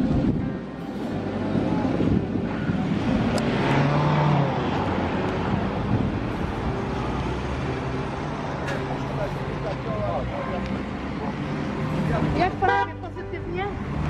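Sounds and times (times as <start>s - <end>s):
street traffic hum: 0.0s - 14.0s.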